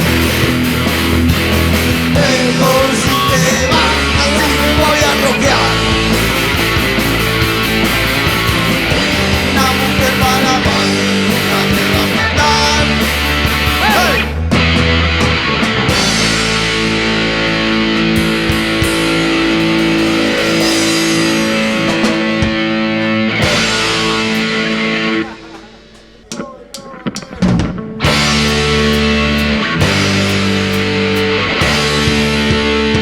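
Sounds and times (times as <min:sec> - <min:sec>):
rock band instrumental: 0:00.0 - 0:33.0.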